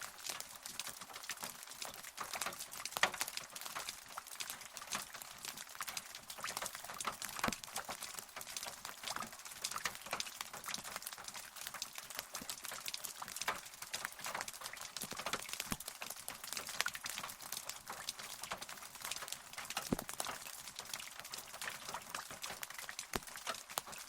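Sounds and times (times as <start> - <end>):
rain drops pattering: 0.0 - 24.0.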